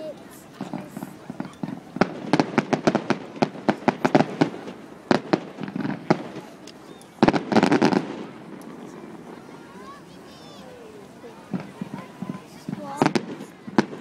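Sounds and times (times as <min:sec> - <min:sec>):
firework crackling: 0:00.0 - 0:14.0
firework reports: 0:00.0 - 0:14.0.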